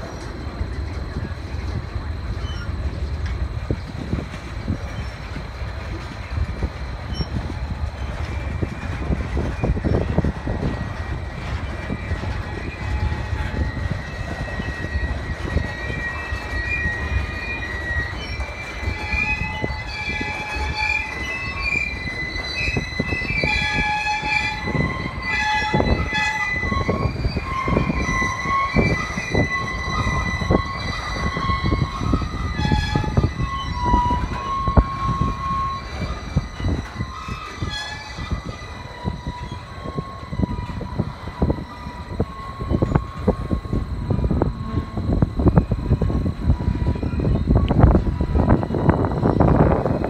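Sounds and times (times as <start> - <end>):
freight train rumbling: 0.0 - 50.0
wheels squealing against rail: 0.0 - 50.0.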